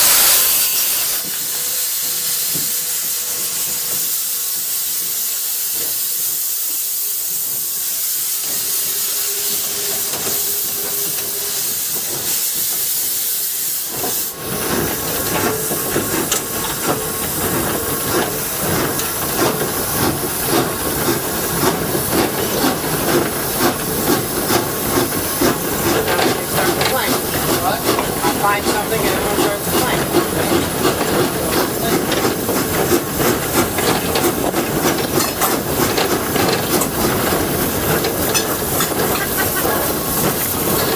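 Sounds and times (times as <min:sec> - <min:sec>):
steam hissing: 0:00.0 - 0:40.9
steam locomotive chuffing: 0:00.0 - 0:40.9.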